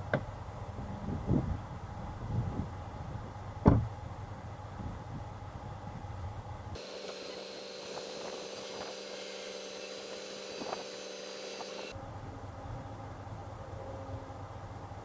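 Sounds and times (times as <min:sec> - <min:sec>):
mechanical hum: 0:00.3 - 0:15.0.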